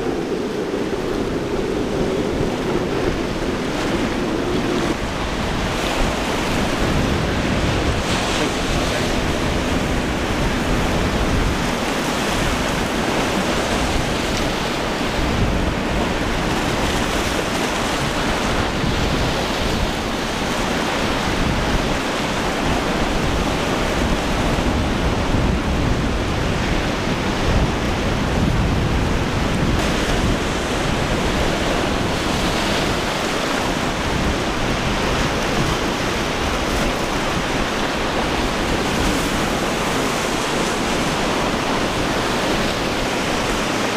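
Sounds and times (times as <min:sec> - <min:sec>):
breaking surf and waves: 0:00.0 - 0:43.9
wind buffeting microphone: 0:00.0 - 0:43.9.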